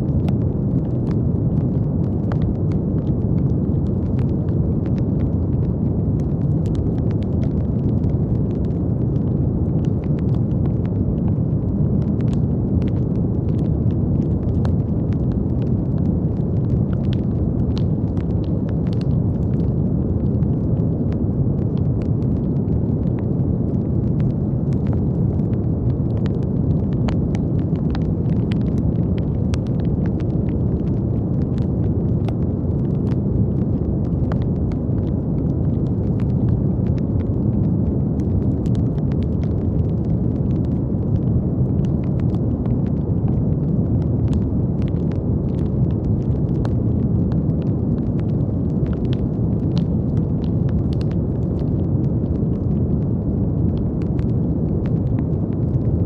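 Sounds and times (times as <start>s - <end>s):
deep rushing brown noise: 0.0s - 56.0s.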